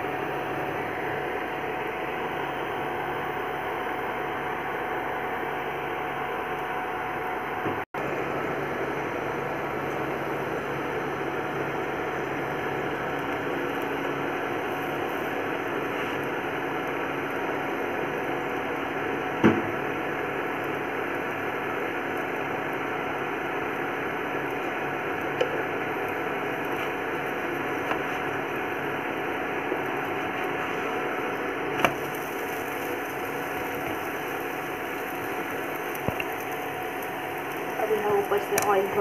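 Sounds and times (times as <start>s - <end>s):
flatbread frying in oil: 0.0s - 39.0s.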